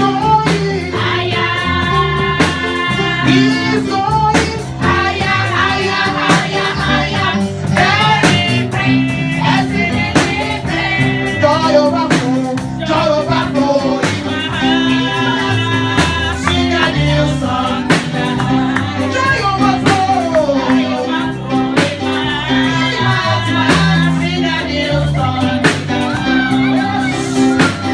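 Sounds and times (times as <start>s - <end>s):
bass line: 0.0s - 27.9s
music with singing: 0.0s - 27.9s
percussion strikes: 0.1s - 24.6s.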